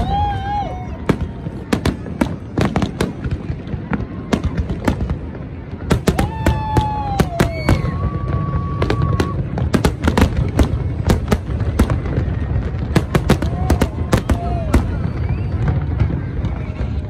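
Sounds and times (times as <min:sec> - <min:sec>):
fireworks bursts and crackling bangs: 0:00.0 - 0:17.0.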